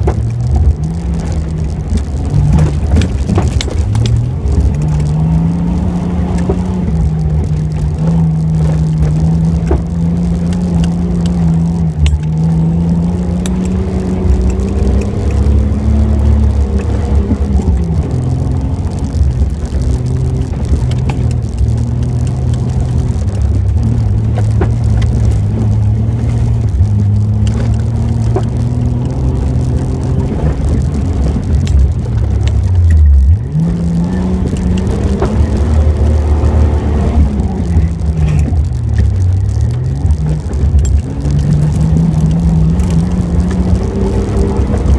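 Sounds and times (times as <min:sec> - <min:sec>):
low rumble: 0:00.0 - 0:44.9
off-road vehicle engine revving: 0:00.0 - 0:44.9
scattered clicks: 0:00.0 - 0:44.9.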